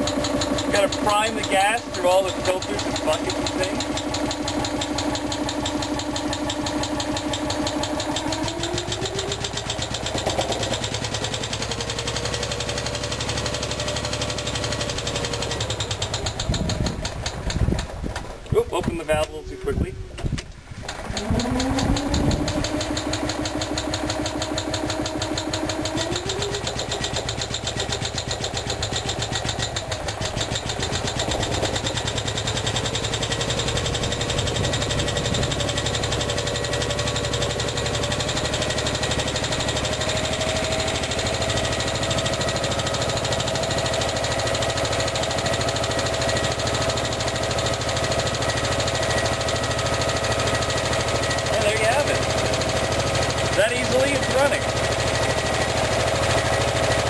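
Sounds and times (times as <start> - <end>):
small generator engine running: 0.0 - 57.0.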